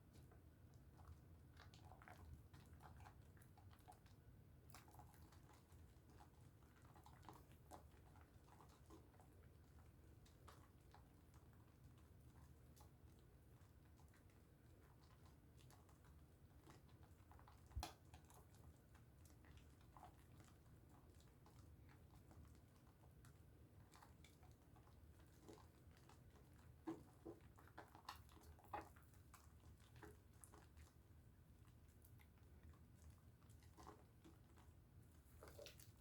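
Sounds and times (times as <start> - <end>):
soap lathering in wet hands: 4.7 - 36.0.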